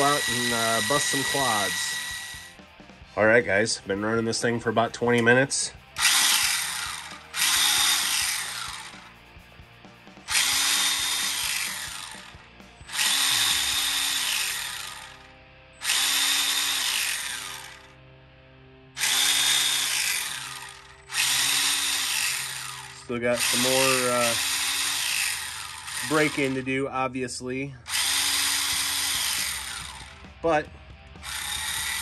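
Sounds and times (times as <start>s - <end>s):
electric motors whining: 0.0s - 2.9s, 6.0s - 9.2s, 10.1s - 18.1s, 19.0s - 27.0s, 27.8s - 32.0s.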